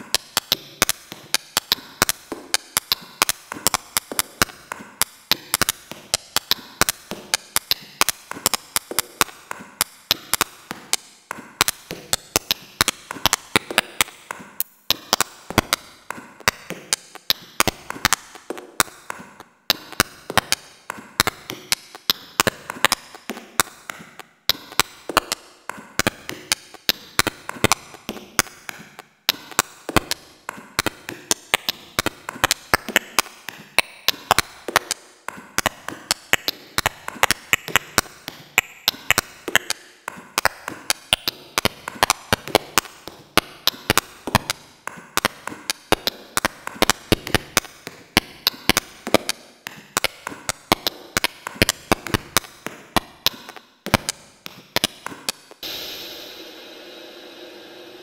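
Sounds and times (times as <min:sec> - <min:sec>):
experimental noise music clicks: 0:00.0 - 0:58.0.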